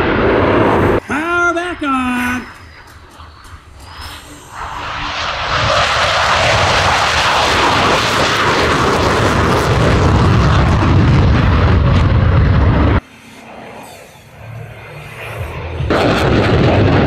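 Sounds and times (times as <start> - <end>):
jet taking off roaring: 0.0 - 17.0.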